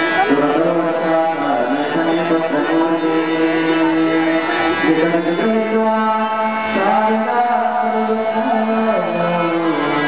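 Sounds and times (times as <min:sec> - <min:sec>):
voices chanting droning notes: 0:00.0 - 0:10.0.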